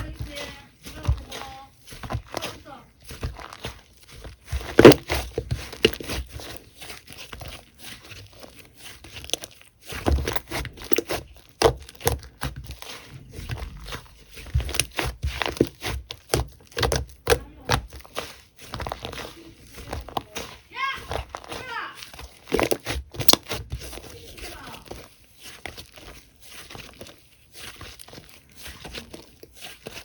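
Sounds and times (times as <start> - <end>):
slime squishing sticky pops: 1.0 - 30.0.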